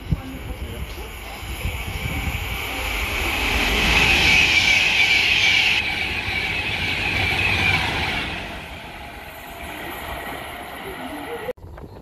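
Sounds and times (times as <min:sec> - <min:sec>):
train passing: 0:00.0 - 0:11.5.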